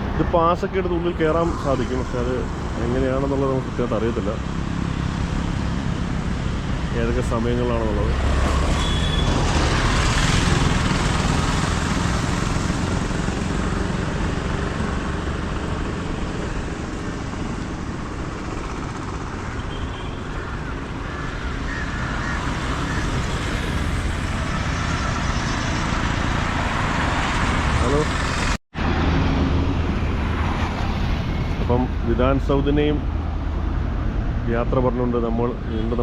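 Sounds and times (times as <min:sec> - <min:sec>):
road traffic noise: 0:00.0 - 0:36.0.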